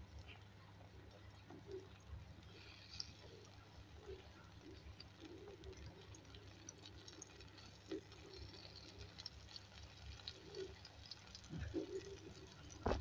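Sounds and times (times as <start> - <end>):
omelette sizzling in oil: 0.0 - 13.0.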